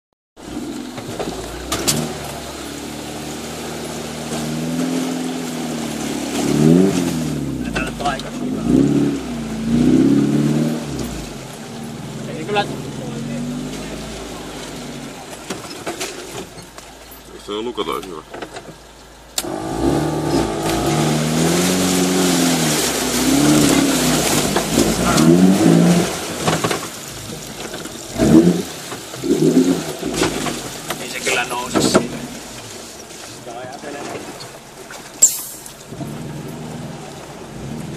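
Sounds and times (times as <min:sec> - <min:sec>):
car engine at low revs: 0:00.4 - 0:37.9
tyre mud and water noise: 0:00.4 - 0:37.9.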